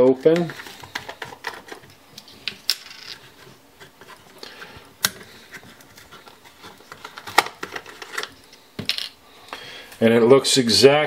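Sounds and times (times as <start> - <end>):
light rustling of cartons: 0.0 - 9.0.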